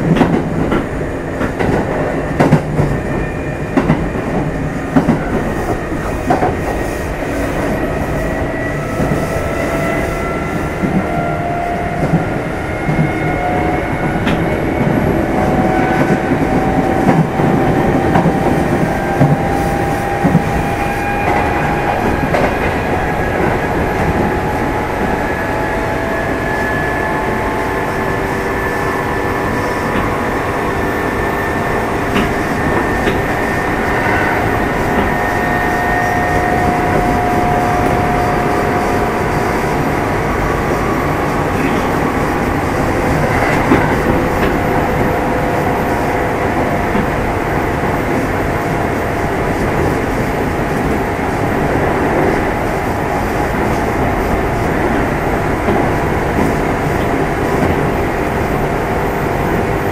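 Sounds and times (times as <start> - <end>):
train motor and gear whine: 0.0 - 59.9
train running noise: 0.0 - 59.9.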